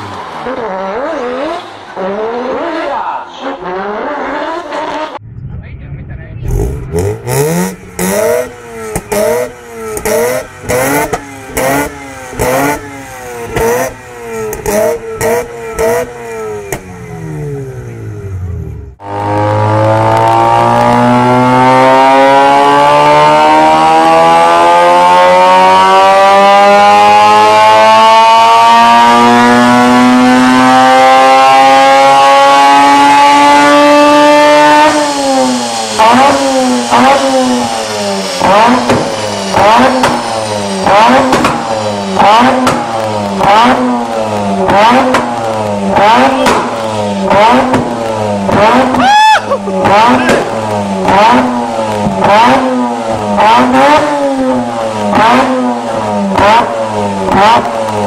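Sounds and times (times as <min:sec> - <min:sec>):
rotary engine revving: 0:00.0 - 0:05.7, 0:06.4 - 0:58.0.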